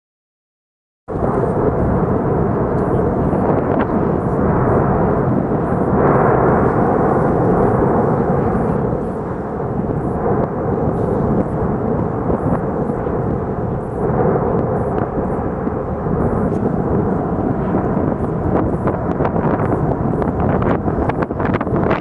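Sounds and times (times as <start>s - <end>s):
lava fountains rumbling: 1.1s - 22.0s.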